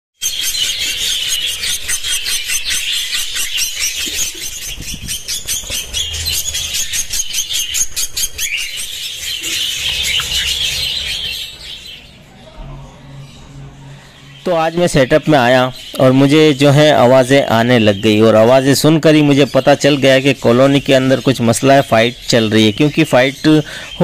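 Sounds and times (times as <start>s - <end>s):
budgerigars shrieking chatter: 0.2s - 12.2s, 13.1s - 24.0s.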